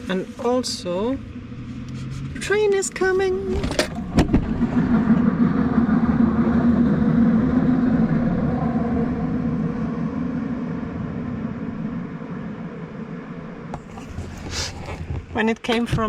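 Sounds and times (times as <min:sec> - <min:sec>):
train passing rumble: 0:00.0 - 0:15.3.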